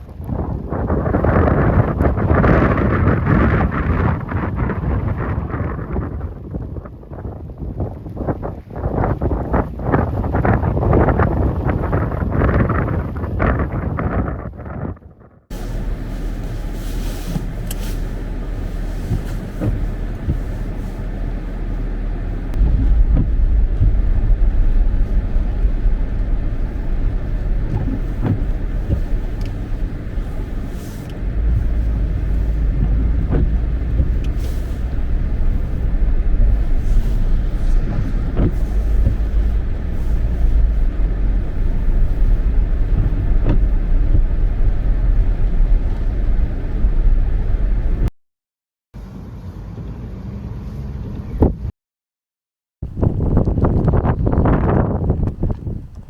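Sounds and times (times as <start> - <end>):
car engine and road rumble: 0.0 - 48.1, 49.0 - 51.7, 52.8 - 56.0.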